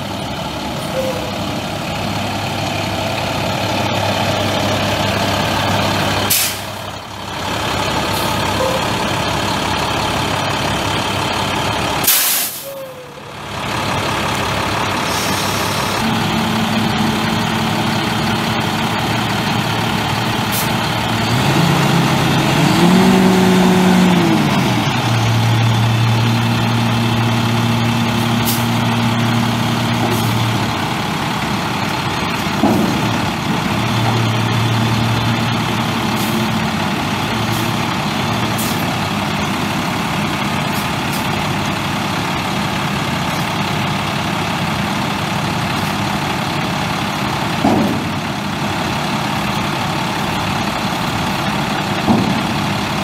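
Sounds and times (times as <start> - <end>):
diesel engine idling and revving: 0.0 - 53.0.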